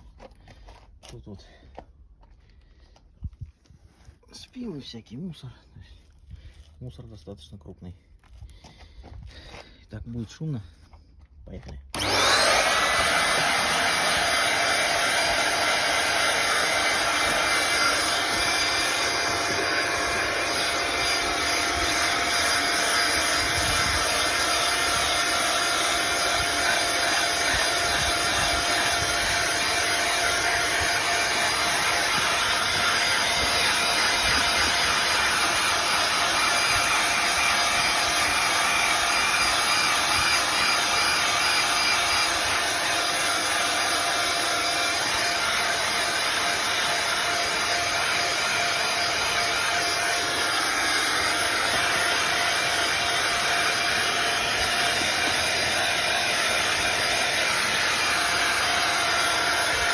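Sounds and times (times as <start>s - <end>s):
vacuum cleaner running: 11.9s - 59.9s.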